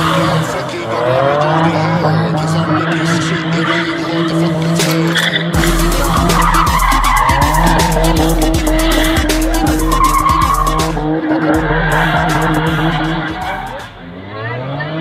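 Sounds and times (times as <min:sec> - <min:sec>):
car engine at high revs: 0:00.0 - 0:15.0
tyres spinning and screeching: 0:00.0 - 0:15.0.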